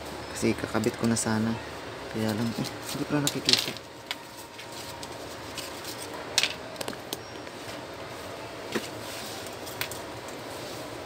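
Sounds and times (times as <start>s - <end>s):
background noise: 0.0s - 11.0s.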